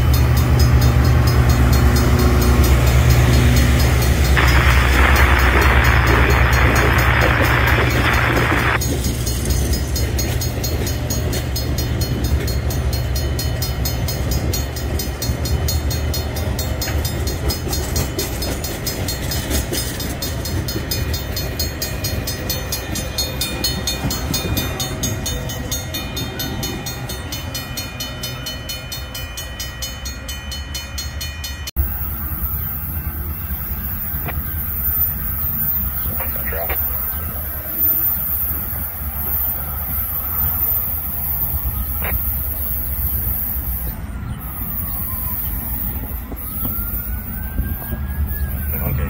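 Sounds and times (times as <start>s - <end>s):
train wheels rumbling and clattering: 0.0s - 48.8s
distant diesel locomotive rumble: 0.0s - 49.0s.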